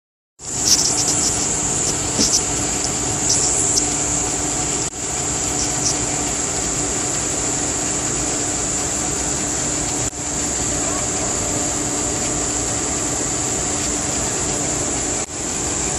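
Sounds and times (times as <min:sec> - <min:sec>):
insects droning: 0:00.4 - 0:15.9.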